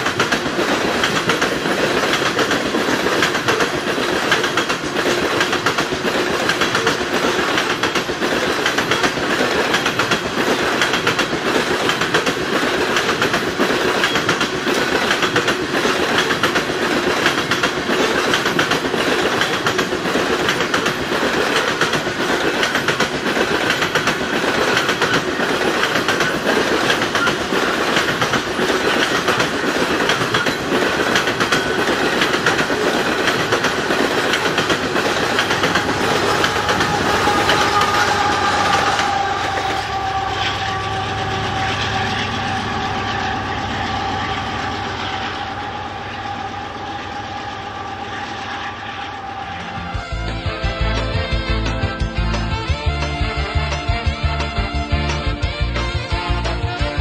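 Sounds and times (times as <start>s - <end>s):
freight train wheels rumbling: 0.0s - 57.0s
wheels clickety-clack on track: 0.0s - 57.0s.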